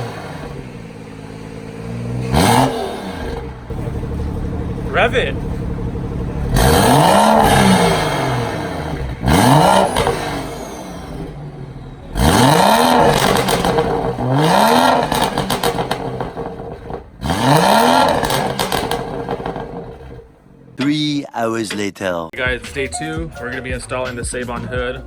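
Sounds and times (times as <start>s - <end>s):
car engine revving: 0.0s - 21.0s, 22.4s - 25.0s.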